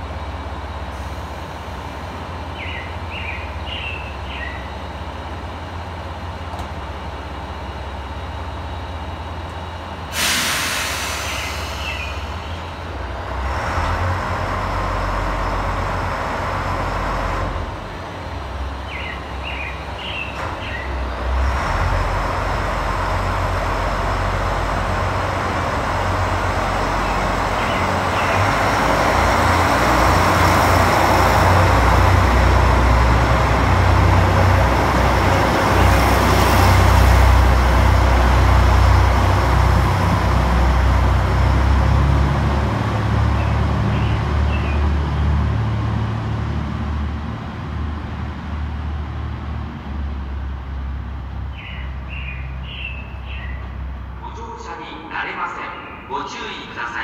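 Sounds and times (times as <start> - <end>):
diesel railcar engine working hard: 0.0 - 57.0
train cars running past: 0.0 - 57.0.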